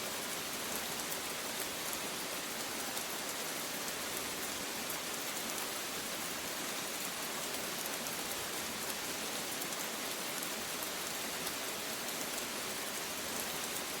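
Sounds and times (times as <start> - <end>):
rain pattering: 0.1 - 14.0.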